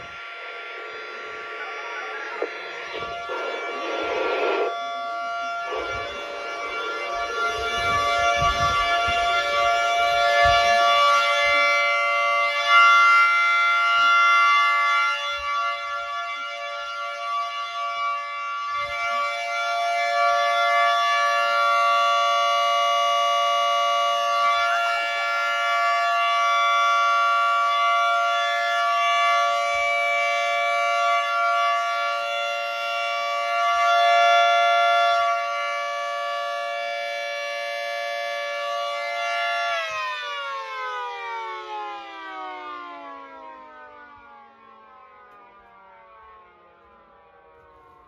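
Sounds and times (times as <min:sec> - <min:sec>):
tornado warning sirens: 0:00.0 - 0:48.0.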